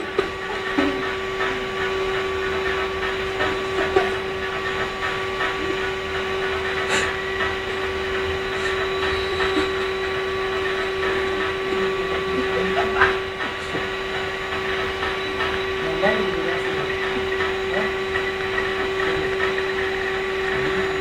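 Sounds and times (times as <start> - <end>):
mechanical hum with held tone: 0.0 - 21.0.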